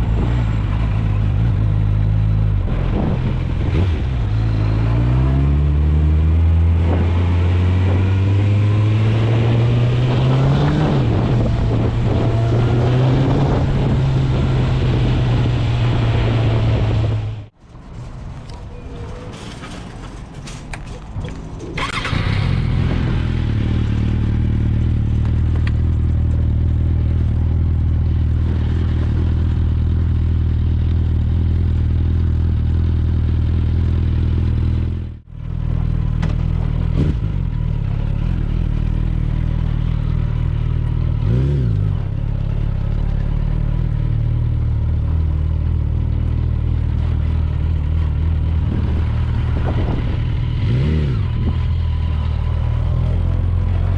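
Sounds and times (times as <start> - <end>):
motorcycle engine revving: 0.0 - 17.5, 21.8 - 53.9.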